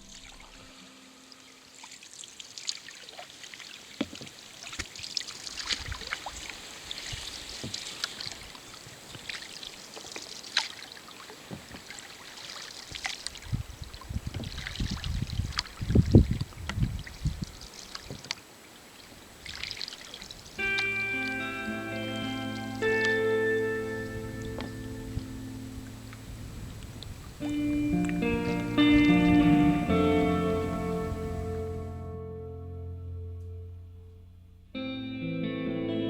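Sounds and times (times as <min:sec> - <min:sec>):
canoe paddles through water: 0:01.8 - 0:32.0.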